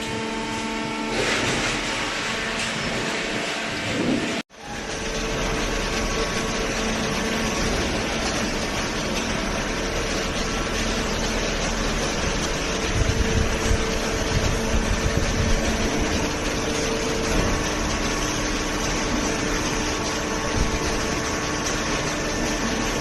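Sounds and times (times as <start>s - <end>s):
hydraulic pump motor humming: 0.0s - 23.0s.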